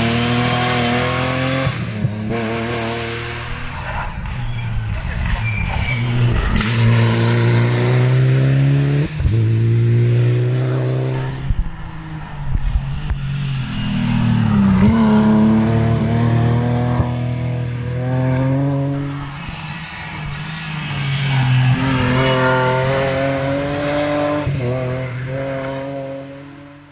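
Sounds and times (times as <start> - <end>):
rally car engine accelerating: 0.0 - 26.9.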